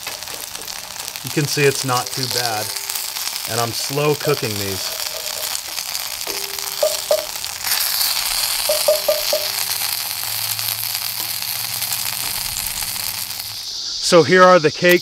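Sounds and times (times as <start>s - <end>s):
cakes sizzling in a pan: 0.0s - 15.0s.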